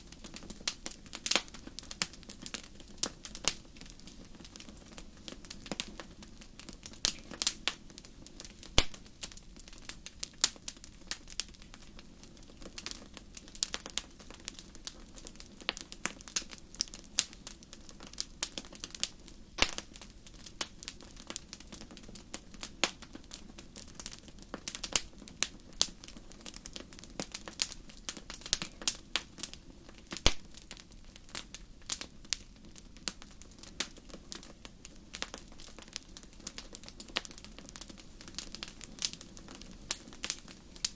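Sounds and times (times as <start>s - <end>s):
campfire crackling and popping: 0.0s - 40.9s
steady low hiss: 0.0s - 40.9s.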